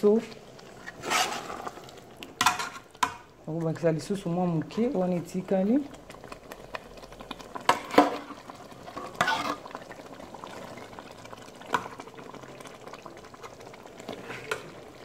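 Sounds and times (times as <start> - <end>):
cooking sizzle: 0.0 - 15.0.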